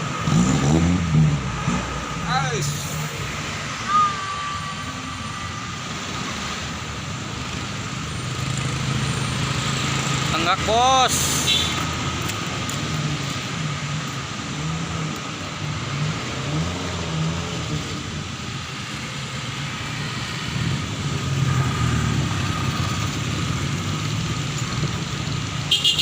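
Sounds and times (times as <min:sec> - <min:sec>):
bus diesel engine labouring: 0:00.0 - 0:26.0.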